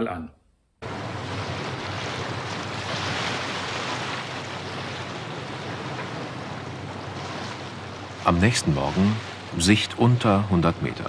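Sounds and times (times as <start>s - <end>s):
wind: 0.0s - 11.0s
low engine hum: 0.8s - 11.0s
rushing water: 0.8s - 11.0s.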